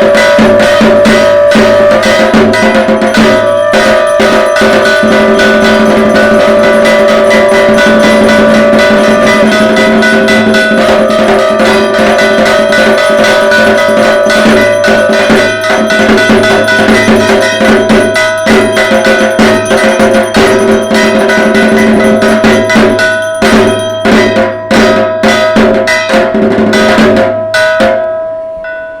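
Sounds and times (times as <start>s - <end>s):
barrel drum beaten fast: 0.0s - 28.1s
ringing metal tones: 0.0s - 29.0s.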